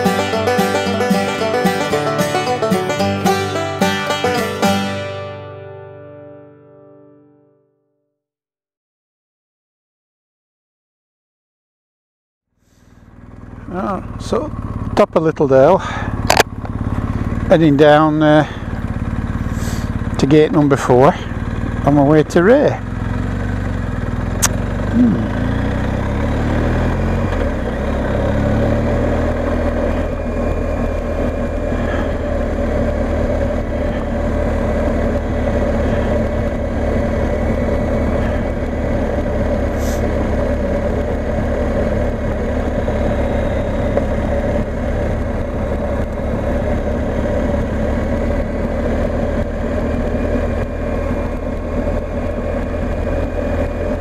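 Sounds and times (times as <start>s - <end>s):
motorcycle engine running: 0.0s - 5.8s, 12.7s - 54.0s.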